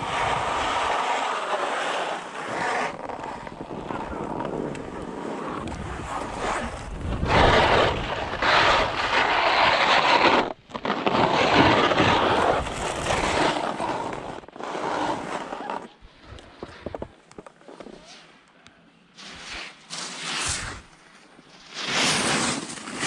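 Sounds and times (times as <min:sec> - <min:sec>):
skis scraping on snow: 0:00.0 - 0:18.4, 0:19.2 - 0:23.0.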